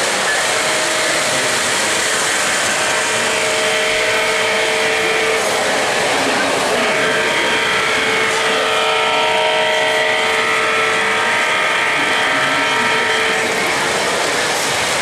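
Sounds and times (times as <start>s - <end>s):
model locomotive horn chord: 0.0s - 15.0s
model trains running hum: 0.0s - 15.0s.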